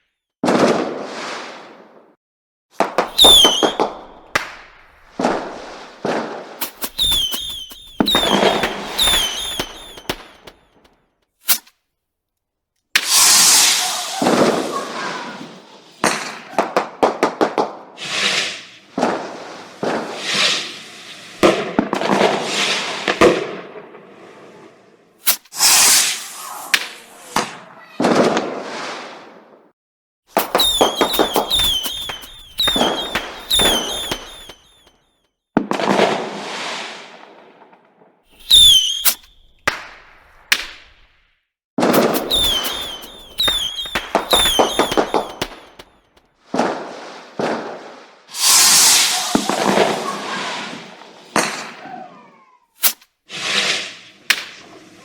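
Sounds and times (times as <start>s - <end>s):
fireworks cracking and bursting: 0.4s - 2.2s, 2.8s - 11.8s, 12.9s - 29.7s, 30.3s - 35.0s, 35.6s - 41.2s, 41.8s - 55.0s
whistling fireworks: 0.4s - 2.2s, 2.8s - 11.7s, 13.0s - 41.2s, 41.8s - 55.0s.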